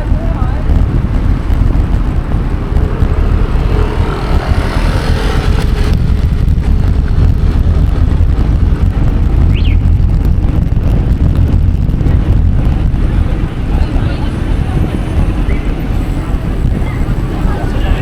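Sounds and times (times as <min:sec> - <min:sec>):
wind rumbling on microphone: 0:00.0 - 0:18.0
motor vehicle passing: 0:00.6 - 0:18.0.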